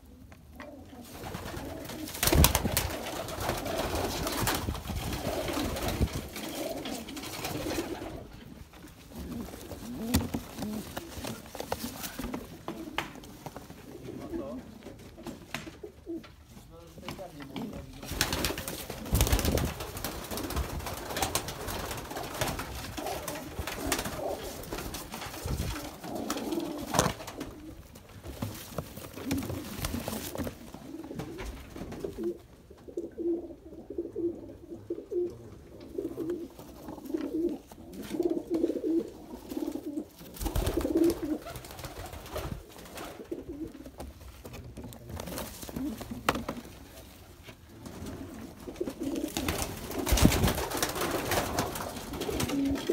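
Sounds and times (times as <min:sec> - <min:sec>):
pigeons cooing: 0:00.0 - 0:16.4, 0:17.8 - 0:47.2, 0:47.8 - 0:52.9.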